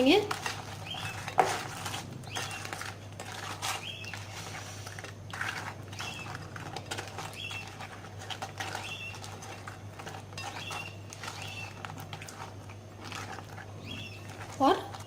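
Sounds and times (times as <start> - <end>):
spoon mixing sticky sauce: 0.0 - 15.0
spoon scraping bowl: 0.0 - 15.0.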